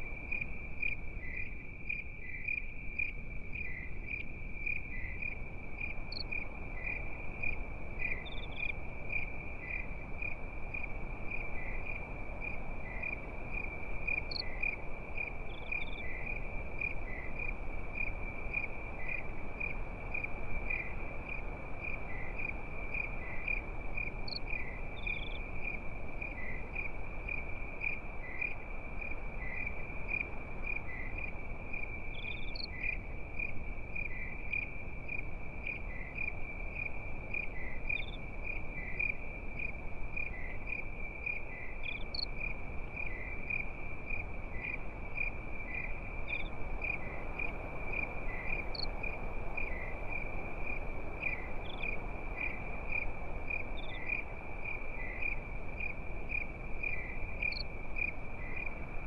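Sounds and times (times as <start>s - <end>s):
crickets trilling: 0.0s - 59.0s
low even hiss: 0.0s - 59.0s.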